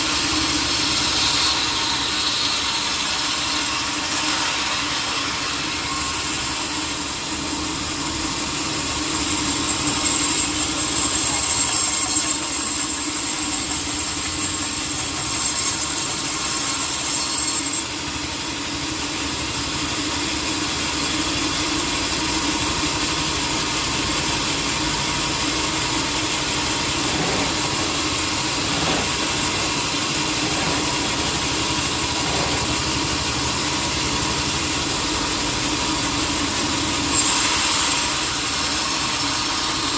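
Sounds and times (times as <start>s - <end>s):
sawmill machine hum: 0.0s - 39.9s.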